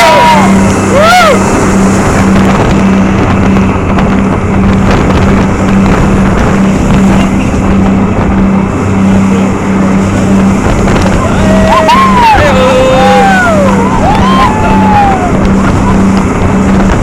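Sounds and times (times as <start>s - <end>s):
boat engine pulsing hum: 0.0s - 17.0s
wind rushing over microphone: 0.0s - 17.0s.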